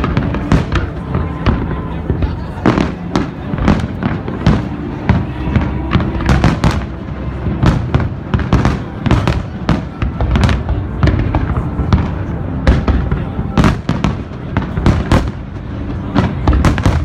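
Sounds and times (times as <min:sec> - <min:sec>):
continuous low rumble: 0:00.0 - 0:17.0
fireworks bangs and crackling: 0:00.0 - 0:17.0.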